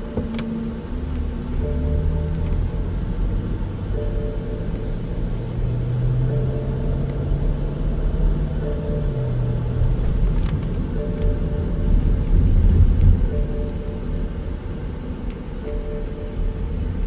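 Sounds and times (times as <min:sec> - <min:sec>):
car engine low rumble: 0:00.0 - 0:17.0.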